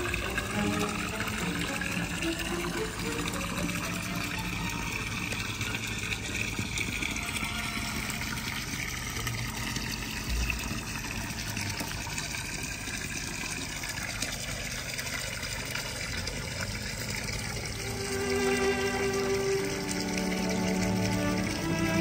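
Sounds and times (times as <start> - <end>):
water splashing into pool: 0.0 - 22.0.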